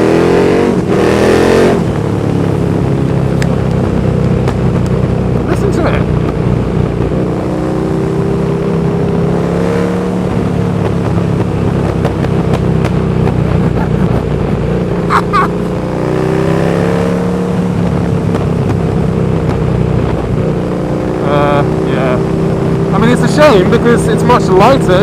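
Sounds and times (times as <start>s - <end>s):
loud motorcycle engine revving: 0.0s - 25.0s.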